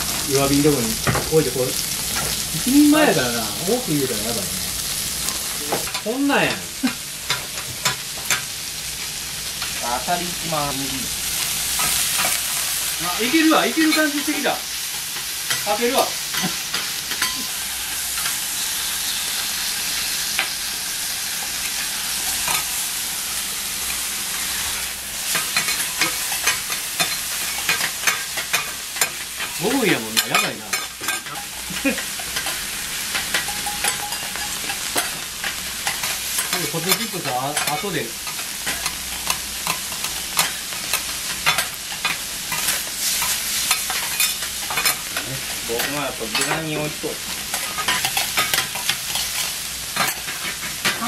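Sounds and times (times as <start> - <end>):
food sizzling on griddle: 0.0 - 51.0.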